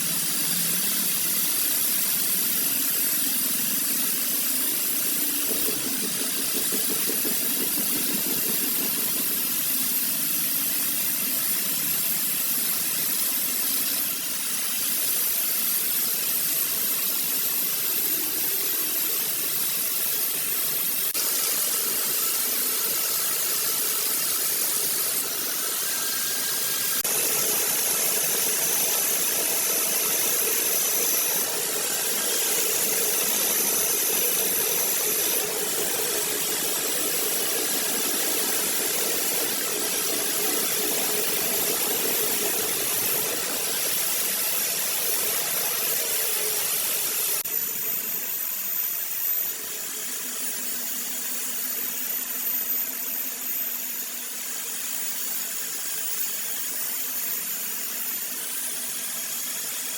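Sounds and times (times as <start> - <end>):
workshop machine hiss: 0.0 - 59.9.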